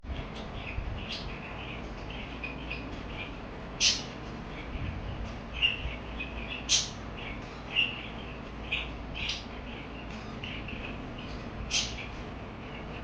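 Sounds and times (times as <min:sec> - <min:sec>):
parakeets chirping: 0:00.1 - 0:13.0
soft bird chattering: 0:00.1 - 0:13.0.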